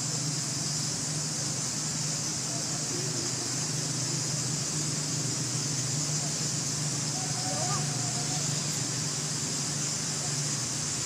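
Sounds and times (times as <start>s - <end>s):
high-pitched hiss: 0.0s - 11.0s
low even hum: 0.0s - 11.0s.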